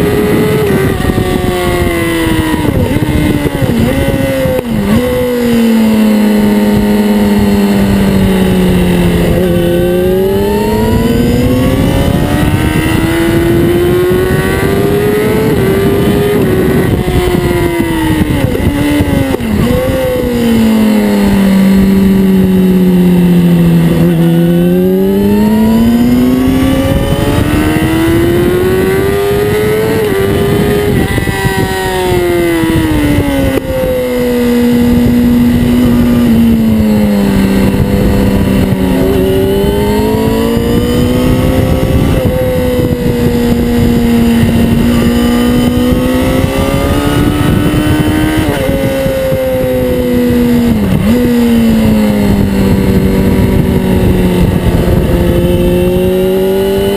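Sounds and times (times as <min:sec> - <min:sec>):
sport bike engine revving: 0:00.0 - 0:56.9
wind rush: 0:00.0 - 0:56.9.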